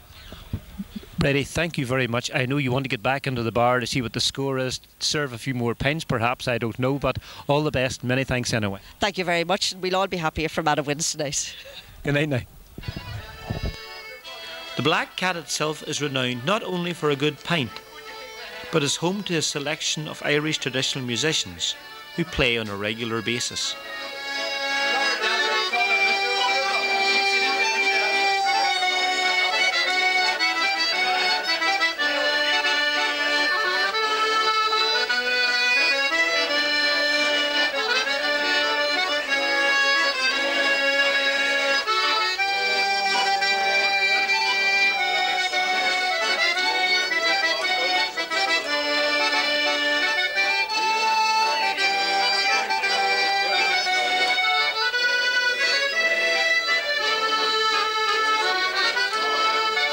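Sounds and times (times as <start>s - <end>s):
button accordions playing a folk tune: 9.0s - 59.9s.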